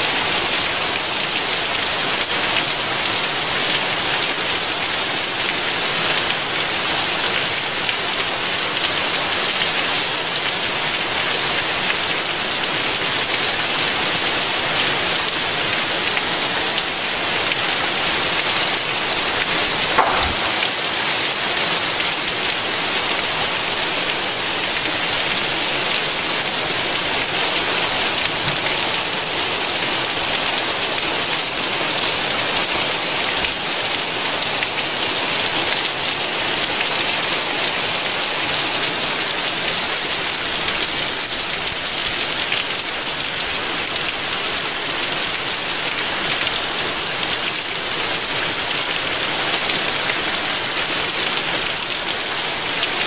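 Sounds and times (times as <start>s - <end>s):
heavy rain on flooded street: 0.0s - 53.0s.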